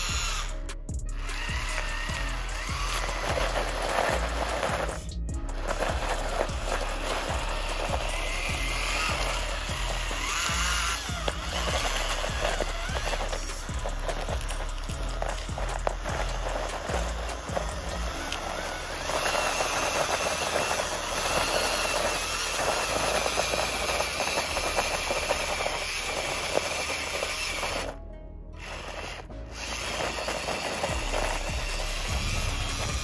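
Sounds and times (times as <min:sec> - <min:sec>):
electric motors whining: 0:00.0 - 0:28.0, 0:28.6 - 0:33.0
tyres grinding over gravel: 0:00.0 - 0:28.0, 0:28.6 - 0:33.0.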